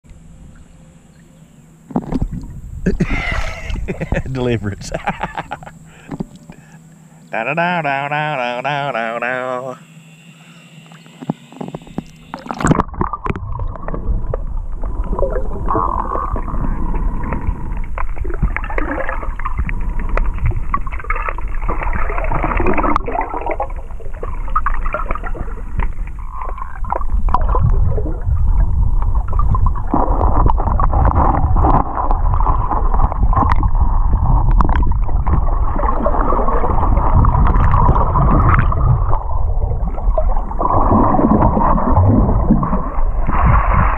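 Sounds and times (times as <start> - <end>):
underwater river rumble and gurgle: 0.0 - 7.3, 9.8 - 43.9.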